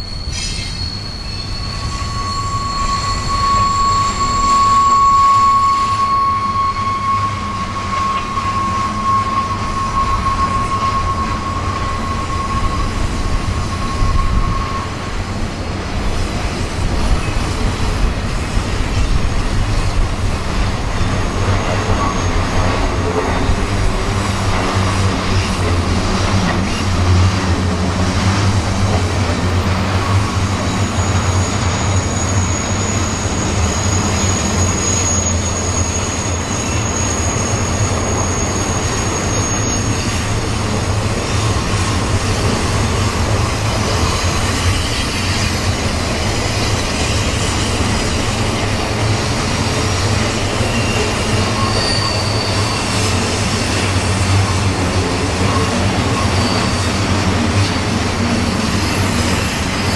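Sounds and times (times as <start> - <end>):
high wheel squeal: 0.0 - 59.9
train wheels rumbling on rails: 0.0 - 59.9.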